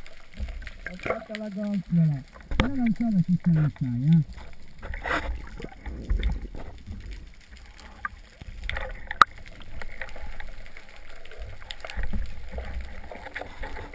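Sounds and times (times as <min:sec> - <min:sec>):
water sloshing and gurgling: 0:00.0 - 0:13.9.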